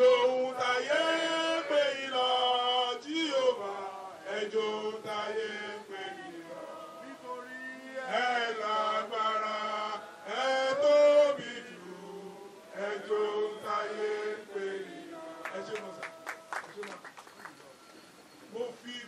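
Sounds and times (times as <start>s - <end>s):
group singing a chant: 0.0s - 16.6s.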